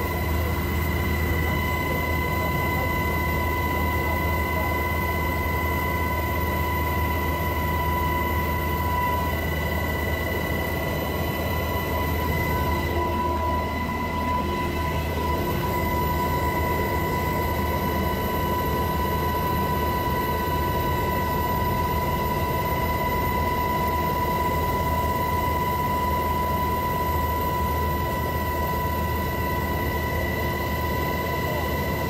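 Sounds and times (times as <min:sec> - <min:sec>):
helicopter cabin noise: 0:00.0 - 0:32.0.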